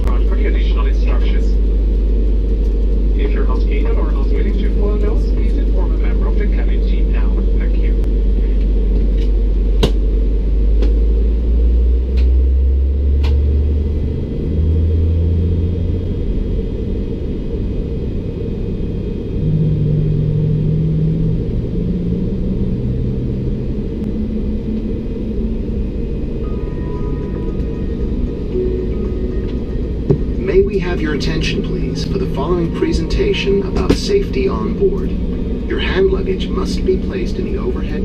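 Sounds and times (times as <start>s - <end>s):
airliner cabin rumble and hum: 0.0s - 38.0s.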